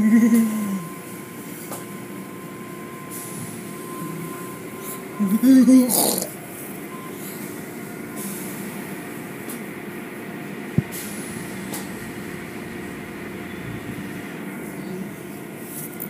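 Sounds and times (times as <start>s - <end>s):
car wash machinery running: 0.0s - 16.0s.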